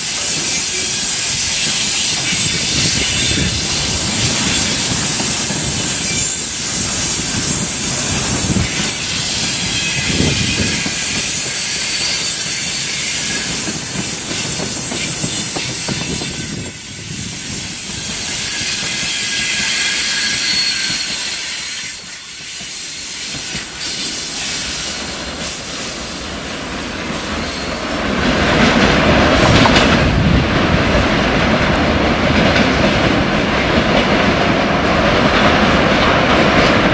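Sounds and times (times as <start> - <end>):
high wheel squeal: 0.0 - 31.2
freight wagons rolling on rails: 0.0 - 36.9.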